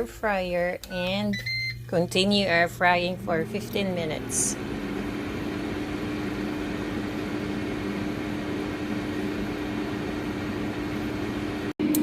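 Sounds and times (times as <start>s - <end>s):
air fryer humming: 0.0s - 12.0s.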